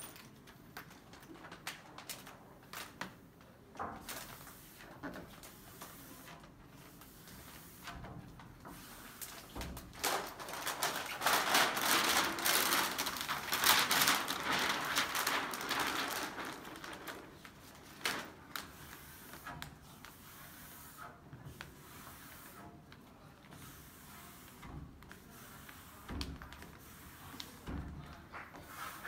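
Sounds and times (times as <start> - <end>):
plastic film crackling and rustling: 0.2 - 20.4, 21.5 - 29.0.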